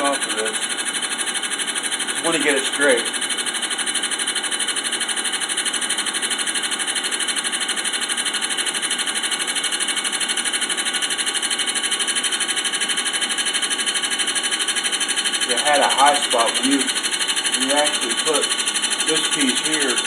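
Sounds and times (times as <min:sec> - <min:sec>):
drill press file rasping metal: 0:00.0 - 0:20.0.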